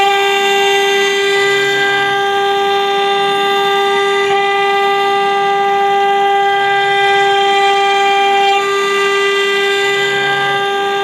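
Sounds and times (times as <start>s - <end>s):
router spindle whining: 0.0s - 11.0s.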